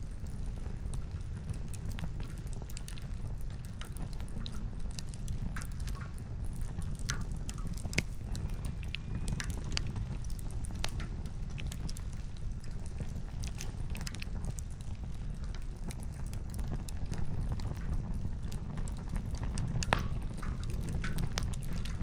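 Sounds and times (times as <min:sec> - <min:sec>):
fire low rumble: 0:00.0 - 0:22.0
campfire pops and snaps: 0:00.1 - 0:22.0.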